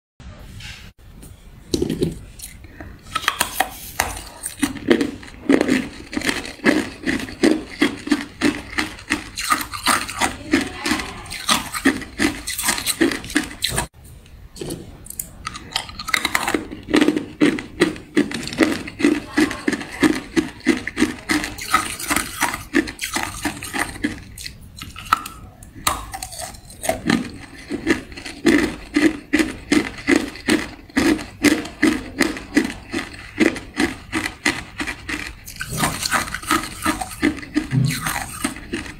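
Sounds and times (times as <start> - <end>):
ice cubes crunching: 1.8 - 13.9, 15.1 - 38.9.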